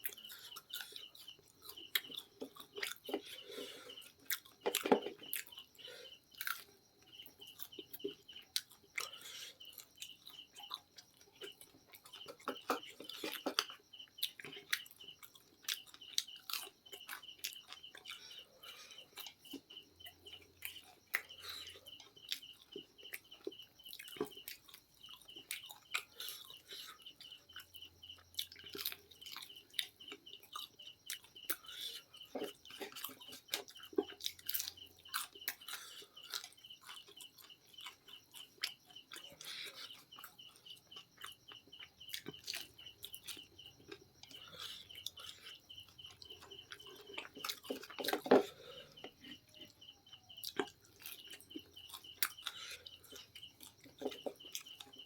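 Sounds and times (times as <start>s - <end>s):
crunching and chewing: 0.0s - 55.0s.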